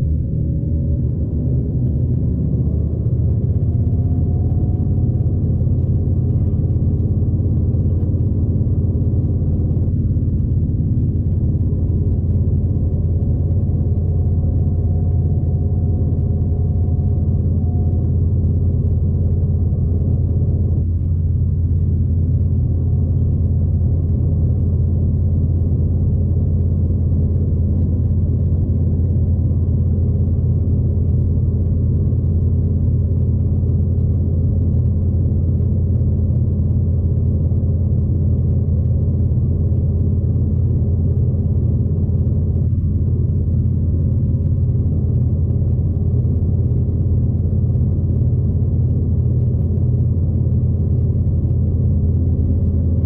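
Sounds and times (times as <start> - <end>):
diesel train engine drone: 0.0 - 53.0.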